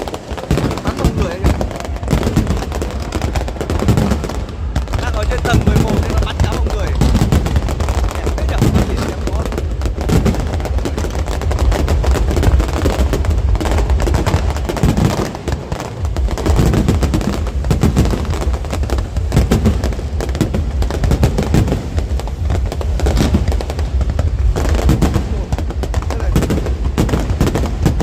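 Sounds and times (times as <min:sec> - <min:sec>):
deep rumble: 0:00.0 - 0:28.0
fireworks bangs and crackling: 0:00.0 - 0:28.0.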